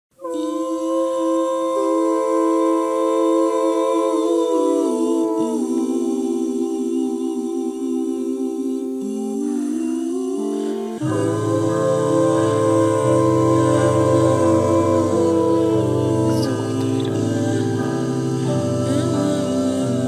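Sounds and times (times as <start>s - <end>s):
hummed vocal chord: 0.1s - 20.0s.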